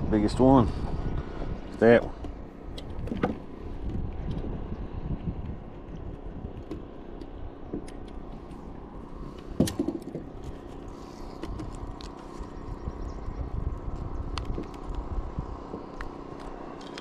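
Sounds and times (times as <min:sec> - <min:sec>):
wind buffeting microphone: 0:00.0 - 0:16.7.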